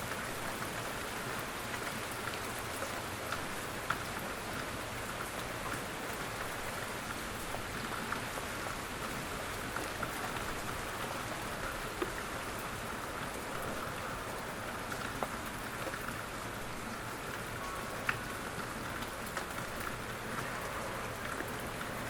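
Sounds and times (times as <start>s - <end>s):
raindrops ticking on a surface: 0.0s - 22.0s
steady rain hissing: 0.0s - 22.0s.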